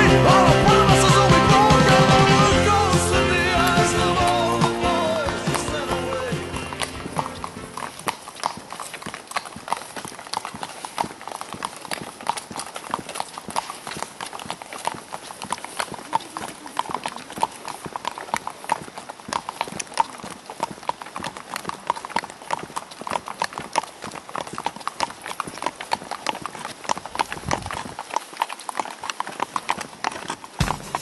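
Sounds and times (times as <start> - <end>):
horse hooves on asphalt: 0.0 - 31.0.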